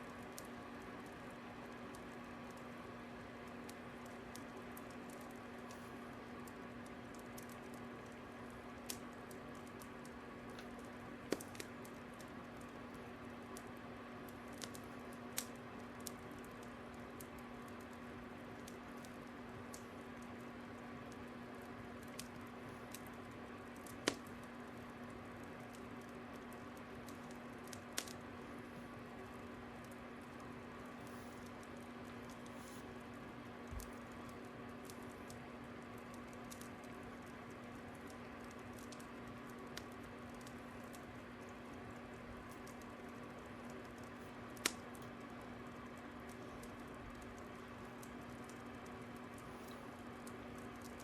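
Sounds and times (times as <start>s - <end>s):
fire crackling and popping: 0.0s - 51.0s
soft steady hiss: 0.0s - 51.0s.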